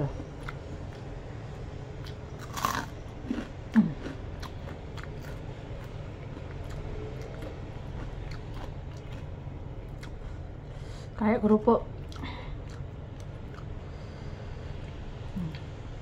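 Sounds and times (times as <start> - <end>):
crunchy chewing of fried food: 0.1 - 16.0.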